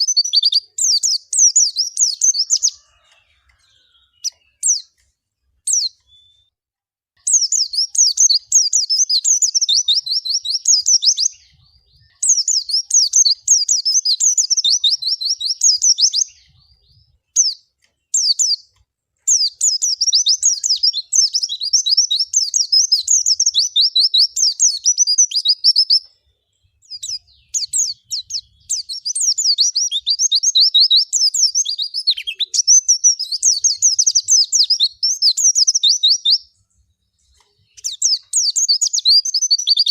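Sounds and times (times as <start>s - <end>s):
bird twittering song: 0.0s - 6.5s, 7.2s - 39.9s.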